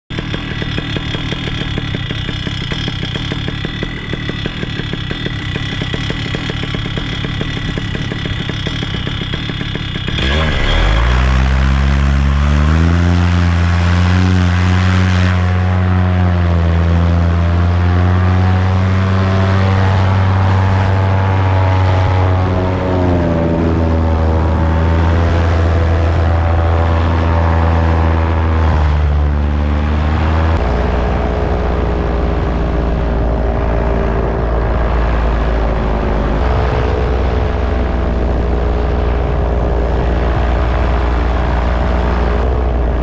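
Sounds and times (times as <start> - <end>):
paramotor engine and propeller: 0.0 - 43.0.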